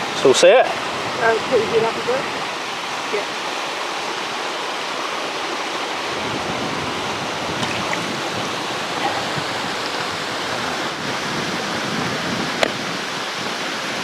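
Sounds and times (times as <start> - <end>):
river water rushing over stones: 0.0 - 14.0.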